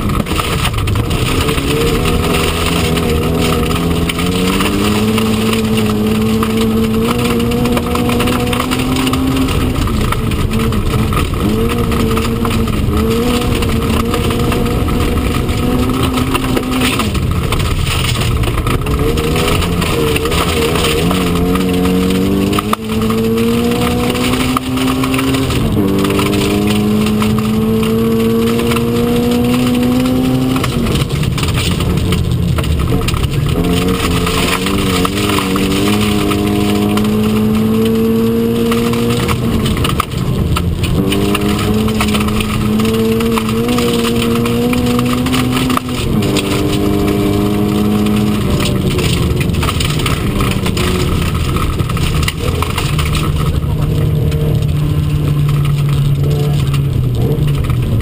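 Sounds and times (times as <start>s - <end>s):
car engine revving hard: 0.0s - 58.0s
tyres on loose stones: 0.0s - 58.0s.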